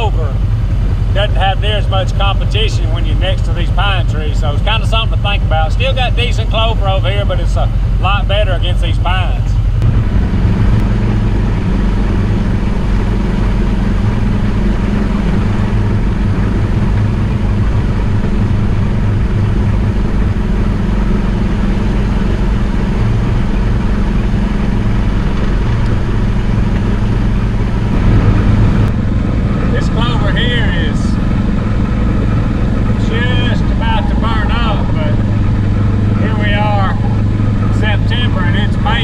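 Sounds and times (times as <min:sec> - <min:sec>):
farm vehicle engine drone: 0:00.0 - 0:39.0.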